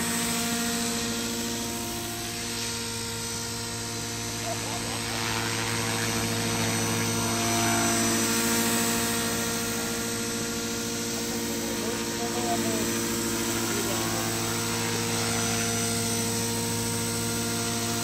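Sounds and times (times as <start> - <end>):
model helicopter buzzing hum: 0.0 - 18.0.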